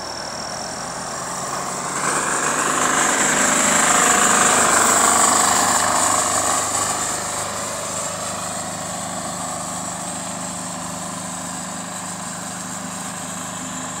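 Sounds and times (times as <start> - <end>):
engine humming: 0.0 - 14.0
loud hiss: 0.0 - 14.0.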